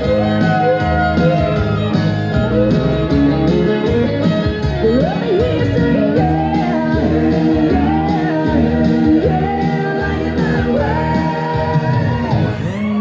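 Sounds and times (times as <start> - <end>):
pop song with guitar: 0.0 - 13.0.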